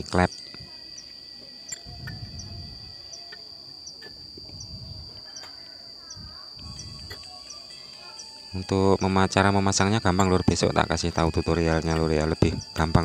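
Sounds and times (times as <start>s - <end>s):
insect drone with chirps: 0.0s - 13.0s.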